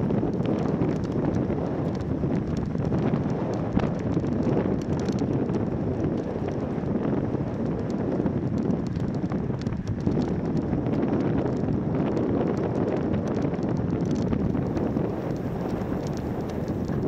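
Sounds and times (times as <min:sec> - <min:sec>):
wind buffeting microphone: 0:00.0 - 0:17.0
faint ticks: 0:00.2 - 0:06.7, 0:07.5 - 0:17.0.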